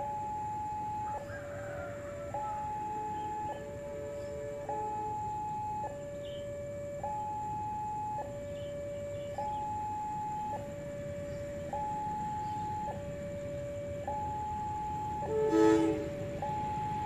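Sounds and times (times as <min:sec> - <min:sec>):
level-crossing alarm two-tone: 0:00.0 - 0:17.0.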